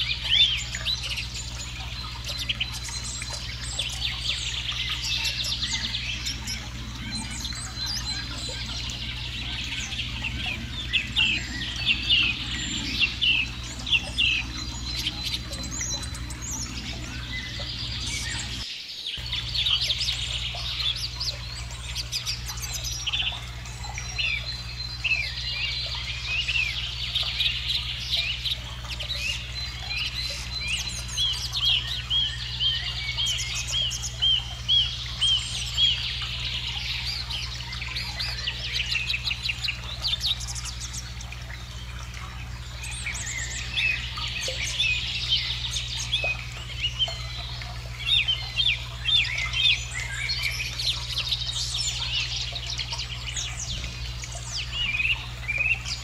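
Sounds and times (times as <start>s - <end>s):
songbirds chirping: 0.0s - 56.0s
steady low hum: 0.0s - 56.0s.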